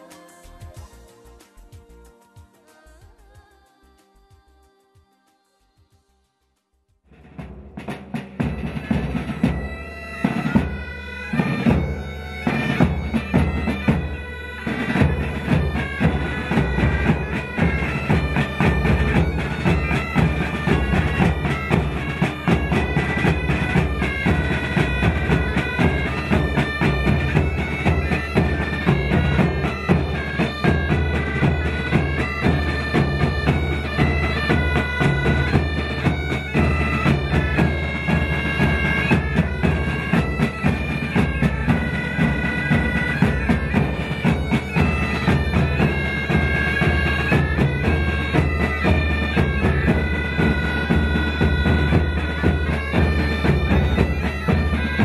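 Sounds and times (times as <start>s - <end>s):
drums beating: 0.0s - 3.5s, 7.1s - 55.0s
bagpipes playing melody: 7.8s - 55.0s.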